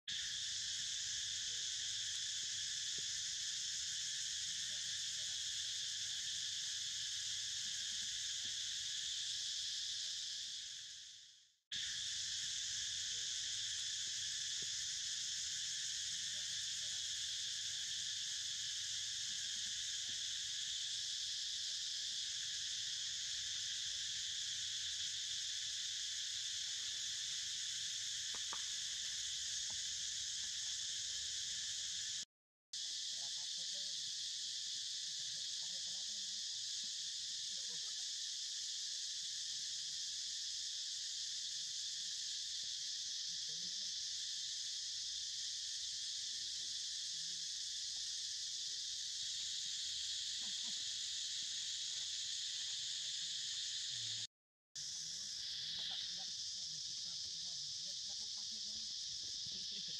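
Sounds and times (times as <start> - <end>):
insect chorus: 0.1 - 59.9.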